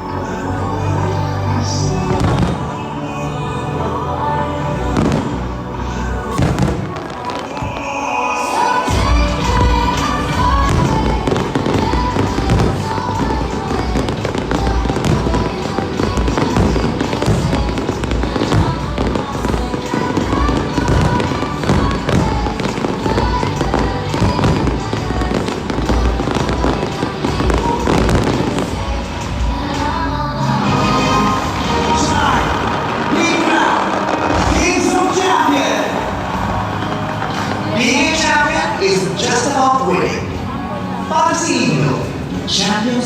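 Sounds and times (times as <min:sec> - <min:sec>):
music playing: 0:00.0 - 0:43.0
fireworks bursting and crackling: 0:02.0 - 0:03.2, 0:04.7 - 0:40.5.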